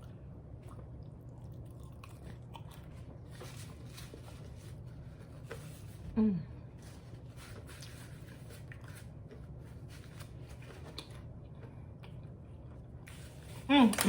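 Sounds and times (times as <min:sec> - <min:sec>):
person chewing food: 0:00.0 - 0:05.8, 0:07.2 - 0:13.2
steady low hum: 0:00.0 - 0:14.0.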